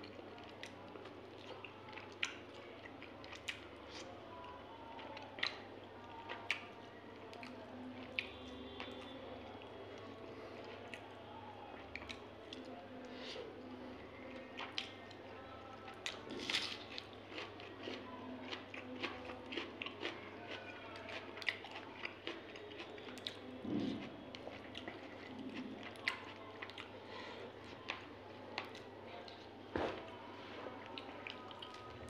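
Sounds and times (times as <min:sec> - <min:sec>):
wet chewing and crunching: 0:00.0 - 0:12.8, 0:14.1 - 0:30.2, 0:30.8 - 0:32.0.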